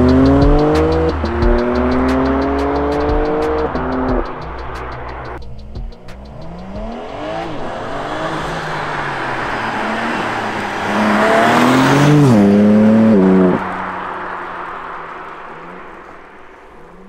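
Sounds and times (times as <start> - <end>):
car engine accelerating past: 0.0 - 17.0.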